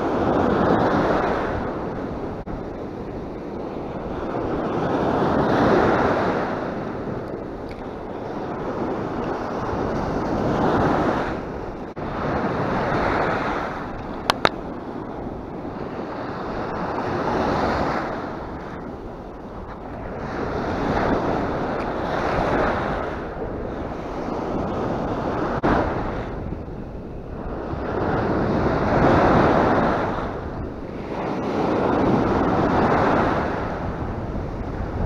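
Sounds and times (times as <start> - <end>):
wind buffeting microphone: 0.0 - 35.0
surf breaking on beach: 3.1 - 26.6, 27.4 - 35.0.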